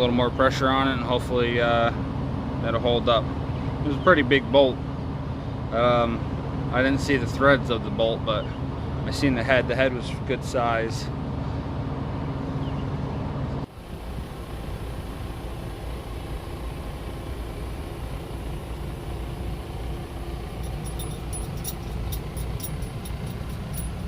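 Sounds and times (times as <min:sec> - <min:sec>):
diesel truck engine rumbling: 0:00.0 - 0:24.0.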